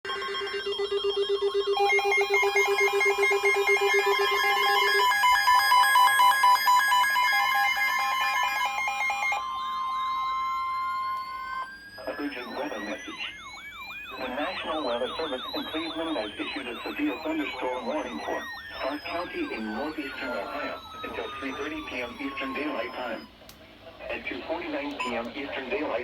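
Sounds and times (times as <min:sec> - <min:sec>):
pulsing alarm beeps: 0:00.1 - 0:23.3, 0:25.0 - 0:25.3
steady high warning tone: 0:00.1 - 0:23.4, 0:24.2 - 0:26.0.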